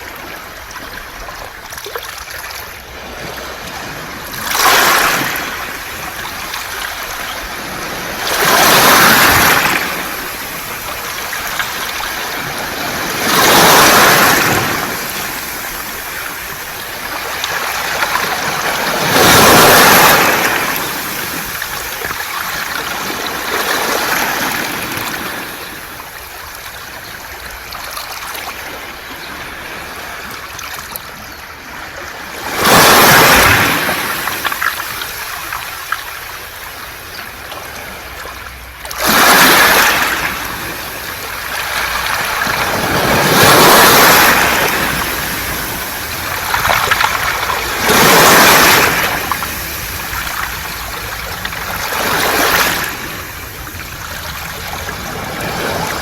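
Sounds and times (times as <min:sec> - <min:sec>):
waves washing over pebbles: 0:00.0 - 0:56.0.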